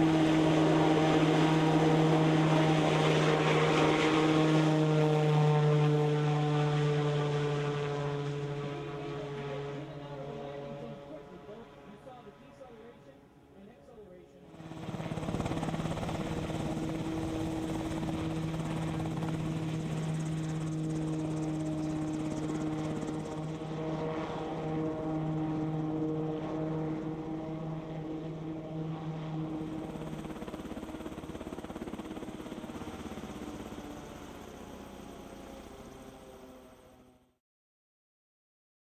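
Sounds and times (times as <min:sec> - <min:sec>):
helicopter rotor and turbine: 0:00.0 - 0:37.4.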